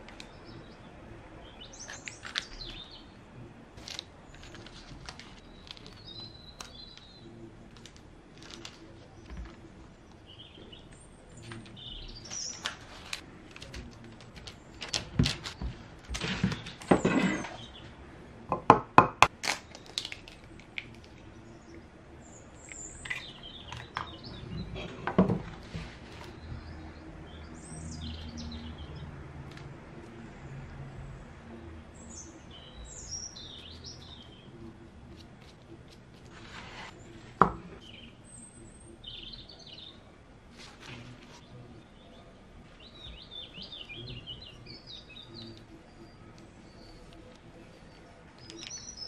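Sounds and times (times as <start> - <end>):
birds chirping: 0.0 - 18.8, 19.7 - 49.0.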